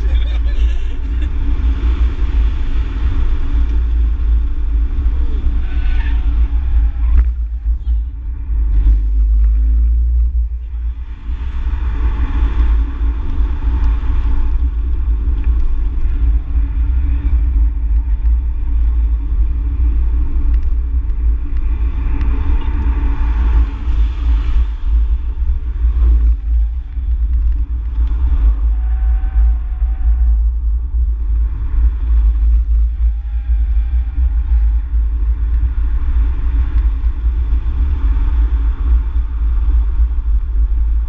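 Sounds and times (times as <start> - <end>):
race car engine and road rumble: 0.0 - 41.0.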